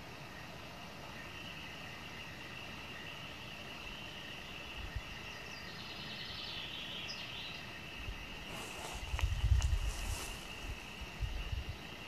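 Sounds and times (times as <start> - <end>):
songbird trill: 0.0 - 12.0.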